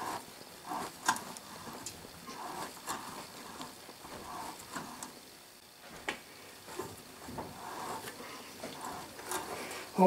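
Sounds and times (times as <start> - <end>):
threading die scraping and creaking: 0.0 - 5.2, 6.6 - 9.9.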